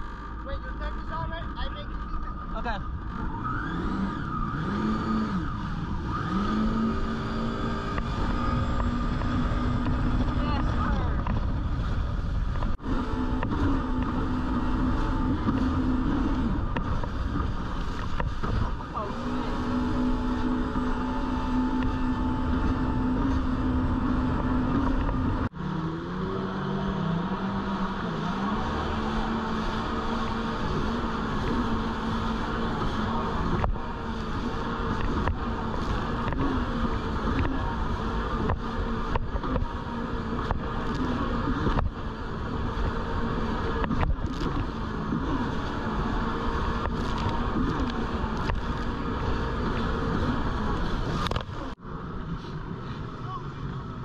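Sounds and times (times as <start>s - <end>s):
engine wavering in pitch: 0.0s - 54.0s
jet ski engine running: 0.0s - 54.0s
water rushing and spraying: 0.0s - 54.0s
wind: 0.0s - 54.0s.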